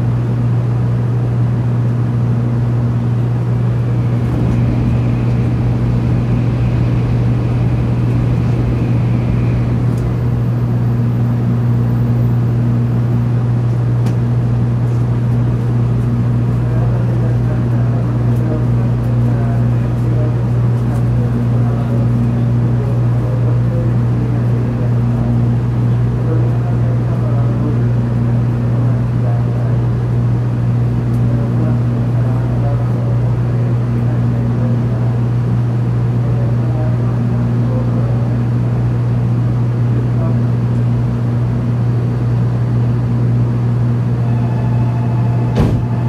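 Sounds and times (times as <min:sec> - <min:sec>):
train equipment hum: 0:00.0 - 0:46.0.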